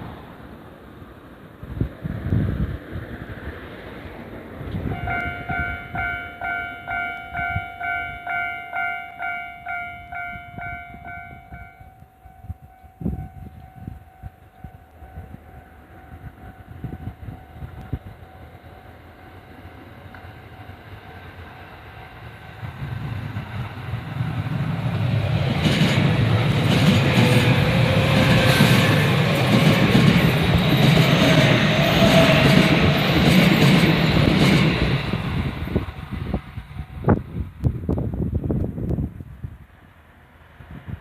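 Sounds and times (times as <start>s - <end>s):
electric train passing: 0.0s - 41.0s.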